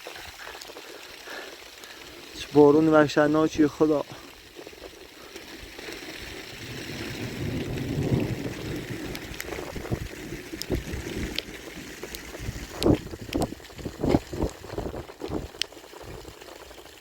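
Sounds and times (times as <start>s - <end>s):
heavy rain with wind: 0.0s - 17.0s.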